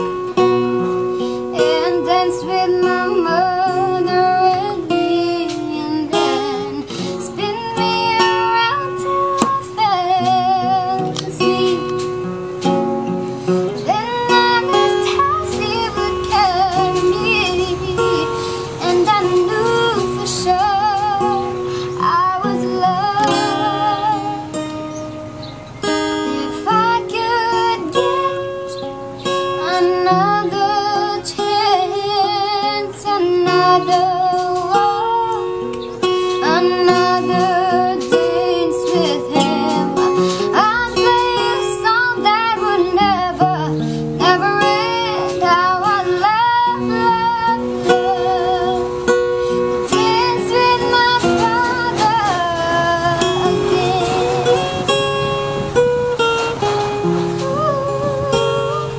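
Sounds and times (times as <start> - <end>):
person singing with vibrato: 0.0 - 58.9
plucked strings: 0.0 - 58.9.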